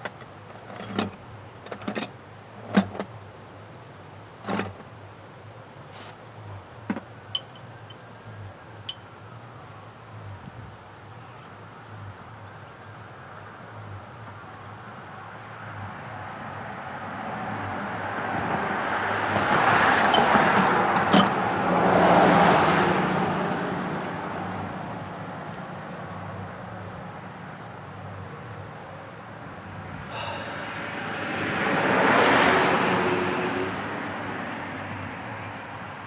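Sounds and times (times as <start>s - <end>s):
vehicles passing by: 0.0s - 36.0s.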